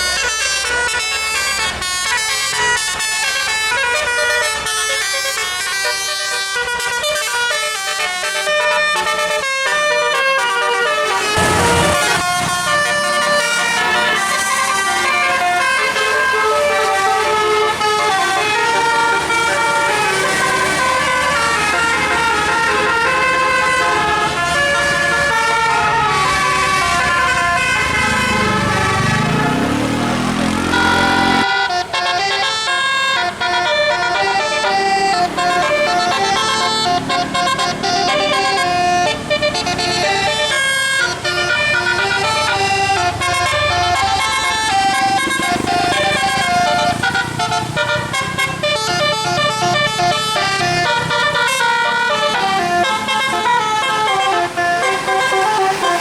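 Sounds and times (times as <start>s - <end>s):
multi-tone musical bus horn: 0.0s - 56.0s.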